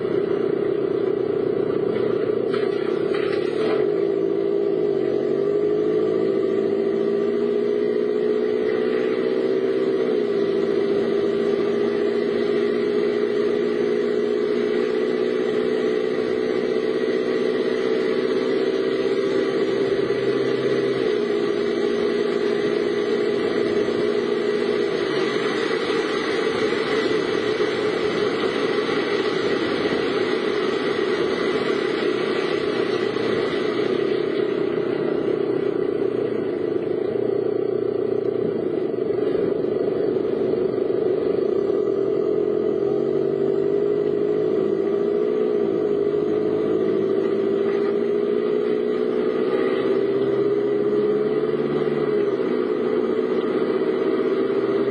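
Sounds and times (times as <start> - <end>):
car engine drone: 0.0 - 54.9
road noise hiss: 0.0 - 54.9.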